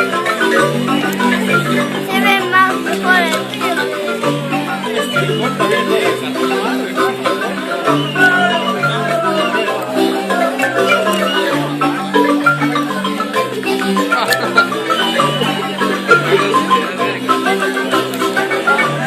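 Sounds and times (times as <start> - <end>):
marimba music: 0.0 - 19.0.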